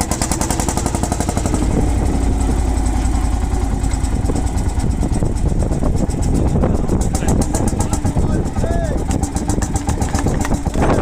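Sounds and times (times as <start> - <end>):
single-cylinder engine running: 0.0 - 11.0.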